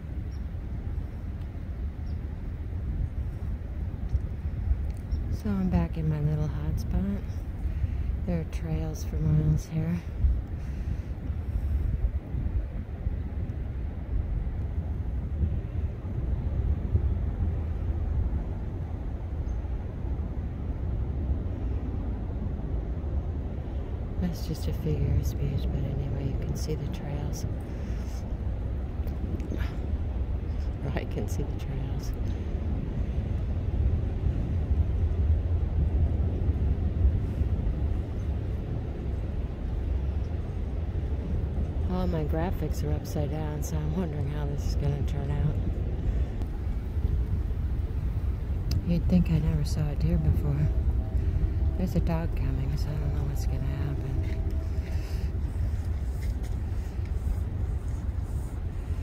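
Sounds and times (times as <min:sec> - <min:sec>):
low outdoor background rumble: 0:00.0 - 0:59.0.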